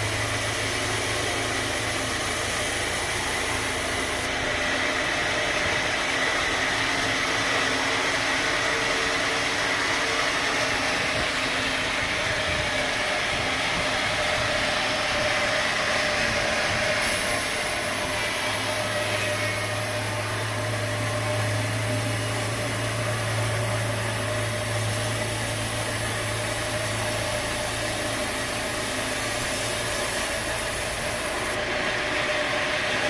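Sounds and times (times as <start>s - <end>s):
sawmill machinery drone: 0.0s - 33.0s
thin steady whine: 0.0s - 33.0s.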